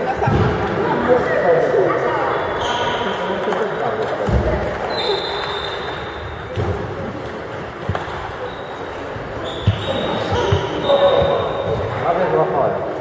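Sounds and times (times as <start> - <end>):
table tennis balls bouncing: 0.0 - 12.1
voices echoing in a hall: 0.0 - 13.0.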